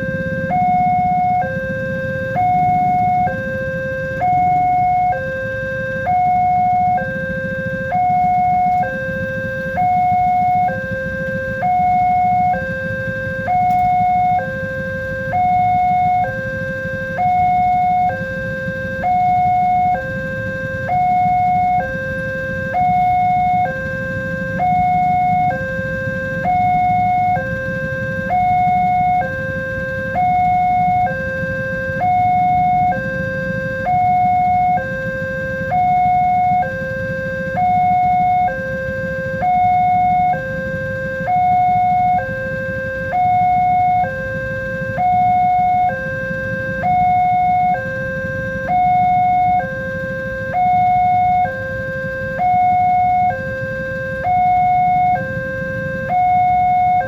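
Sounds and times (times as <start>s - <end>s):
low steady rumble: 0.0s - 57.0s
two-tone crossing alarm: 0.0s - 57.0s.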